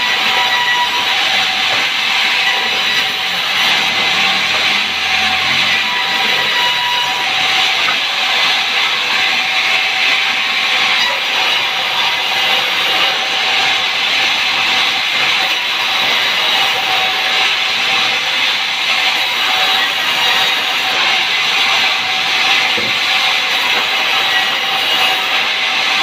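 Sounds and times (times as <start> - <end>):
saw cutting through timber: 0.0 - 26.0.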